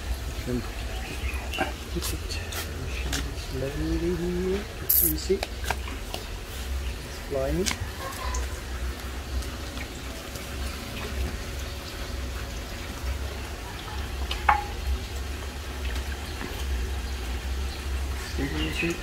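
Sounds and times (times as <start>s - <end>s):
pool water lapping and trickling: 0.0s - 19.0s.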